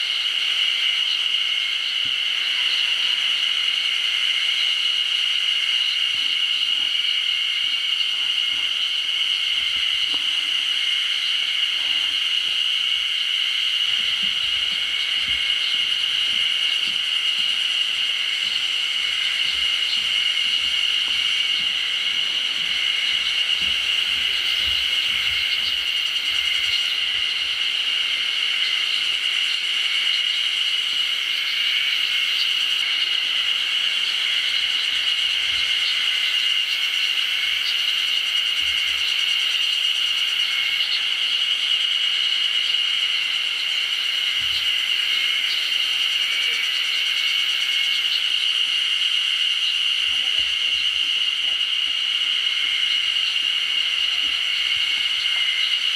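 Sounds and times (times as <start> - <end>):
high-pitched insect chorus: 0.0 - 55.9.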